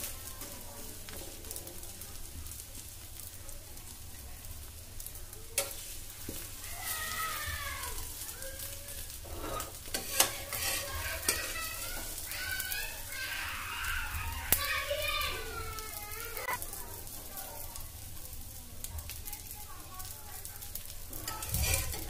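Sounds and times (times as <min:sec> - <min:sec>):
omelette sizzling in oil: 0:00.0 - 0:22.0.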